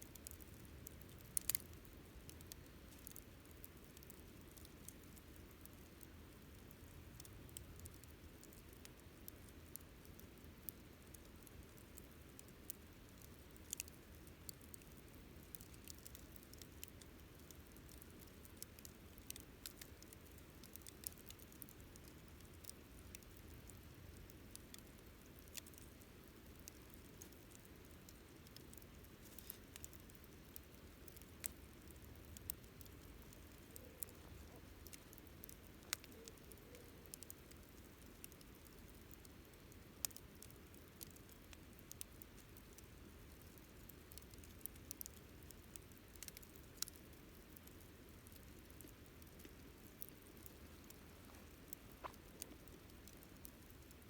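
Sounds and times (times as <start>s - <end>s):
campfire crackling: 0.0s - 54.0s
faint low background noise: 0.0s - 54.0s.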